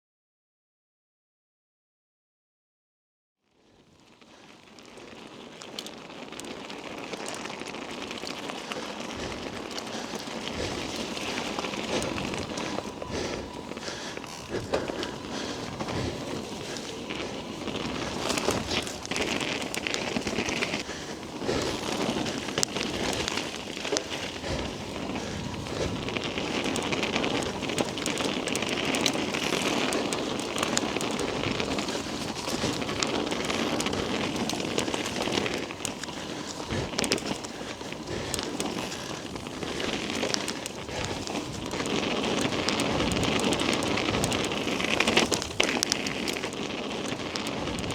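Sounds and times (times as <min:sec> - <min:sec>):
rider breathing hard: 0:03.6 - 0:47.9
bike tyres spattering through mud: 0:04.8 - 0:47.9.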